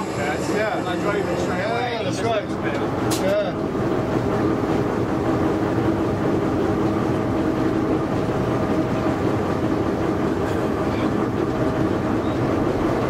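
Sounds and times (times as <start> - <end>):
diesel locomotive engine droning: 0.0 - 13.0
train rolling on rails: 0.0 - 13.0.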